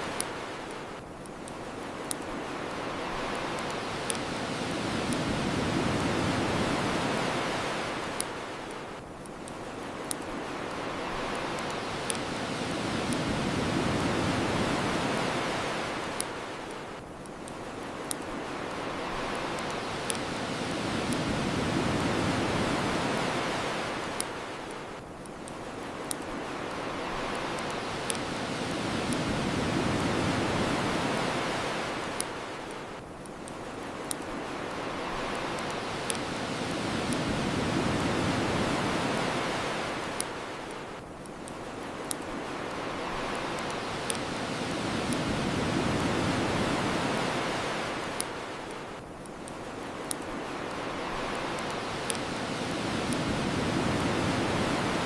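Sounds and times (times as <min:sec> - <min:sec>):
bonfire crackling pops: 0:00.0 - 0:55.0
ocean waves washing ashore: 0:00.0 - 0:55.0.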